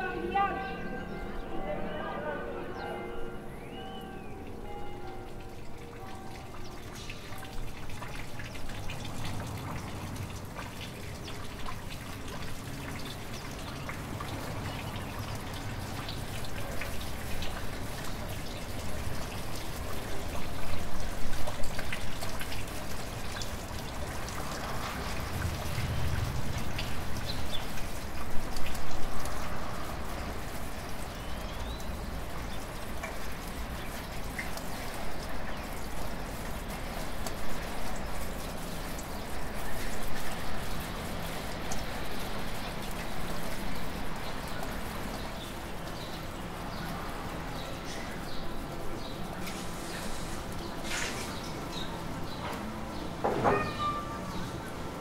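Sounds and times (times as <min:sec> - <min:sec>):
water trickling into fountain basin: 0:02.6 - 0:55.0
rain falling and dripping: 0:04.0 - 0:55.0.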